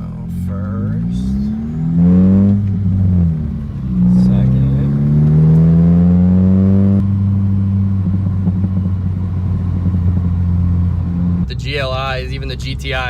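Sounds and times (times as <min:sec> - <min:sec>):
car engine accelerating and droning: 0:00.0 - 0:13.0.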